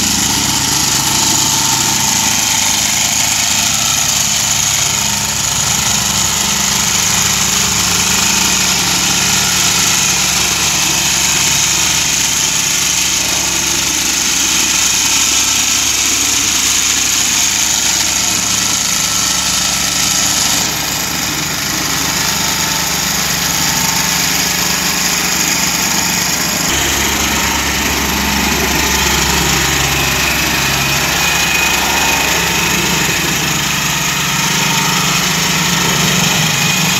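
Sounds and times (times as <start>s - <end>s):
plate compactor engine running: 0.0s - 36.9s.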